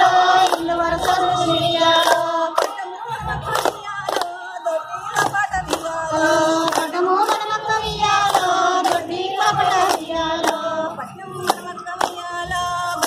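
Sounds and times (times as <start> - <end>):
hands clapping in rhythm: 0.0 - 13.0
women singing in chorus: 0.0 - 13.0.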